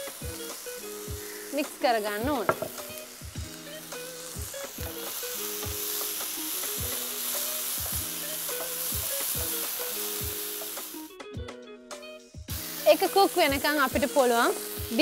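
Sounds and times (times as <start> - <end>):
vegetables sizzling in oil: 0.0 - 11.2, 12.0 - 15.0.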